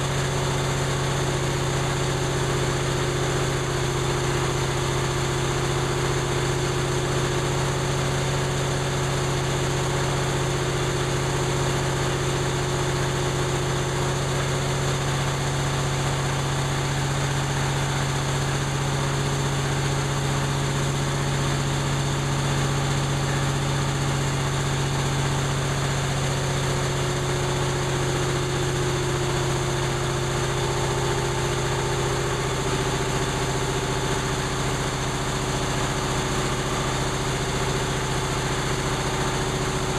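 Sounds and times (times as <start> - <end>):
diesel compressor running: 0.0 - 39.9.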